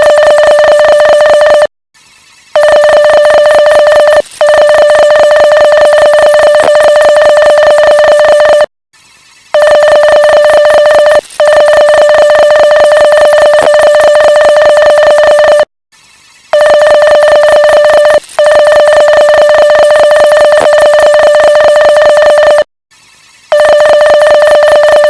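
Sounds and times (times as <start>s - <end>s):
morse code beep: 0.0s - 1.7s, 2.6s - 8.7s, 9.6s - 15.7s, 16.6s - 22.7s, 23.5s - 25.0s.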